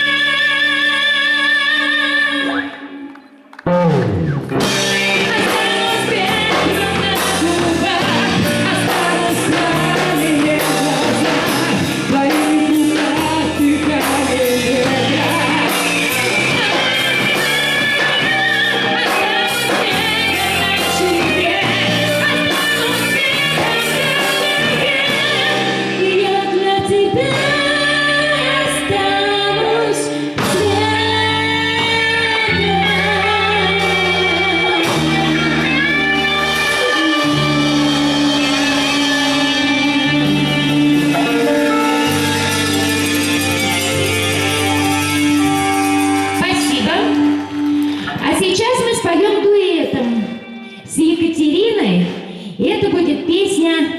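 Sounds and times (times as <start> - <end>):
live band playing pop song: 0.0 - 53.9
person singing: 4.6 - 51.2.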